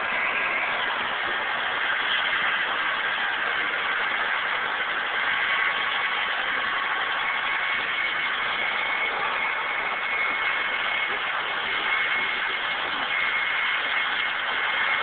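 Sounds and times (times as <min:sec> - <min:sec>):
helicopter turbine and rotor noise: 0:00.0 - 0:15.0.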